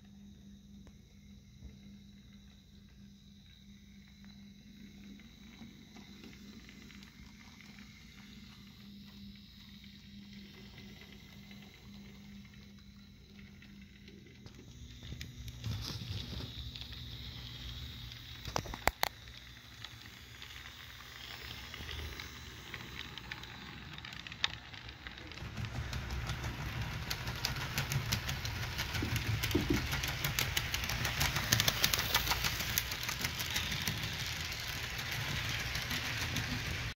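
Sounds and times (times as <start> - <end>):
model train wheels clicking: 5.2 - 37.0.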